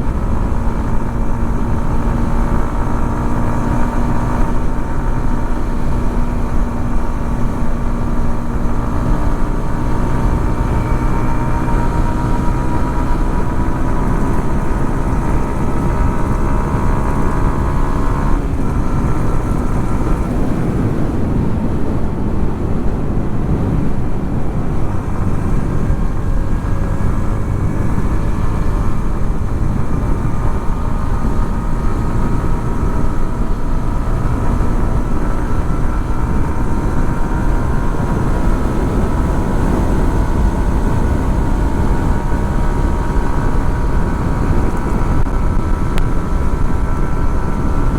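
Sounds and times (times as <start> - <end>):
motorcycle engine droning: 0.0 - 47.9.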